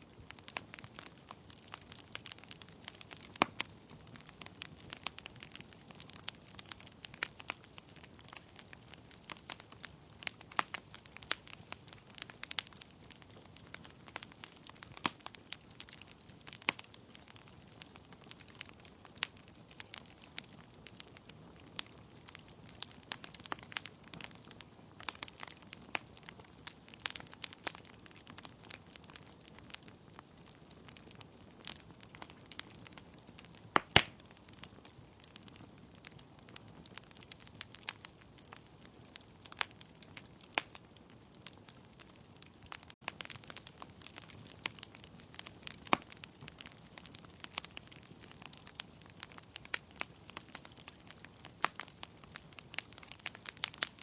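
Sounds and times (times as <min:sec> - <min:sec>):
logs crackling and popping: 0:00.0 - 0:54.0.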